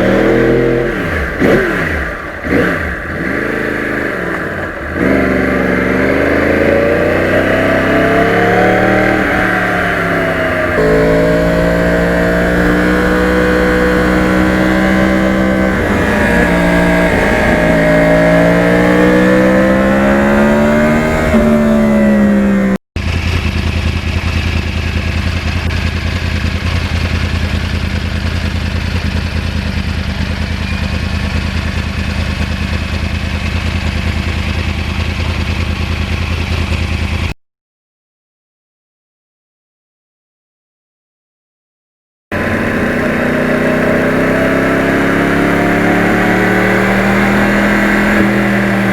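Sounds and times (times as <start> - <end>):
motorcycle engine revving: 0.0 - 37.4, 42.3 - 48.9.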